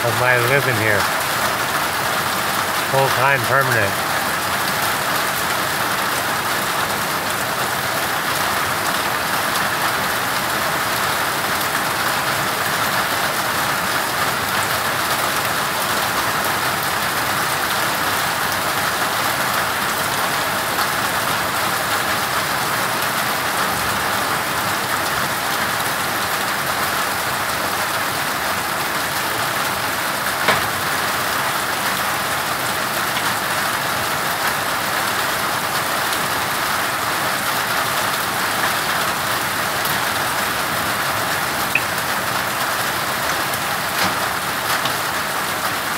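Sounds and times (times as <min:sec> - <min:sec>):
hard rain and hail pattering: 0:00.0 - 0:45.9.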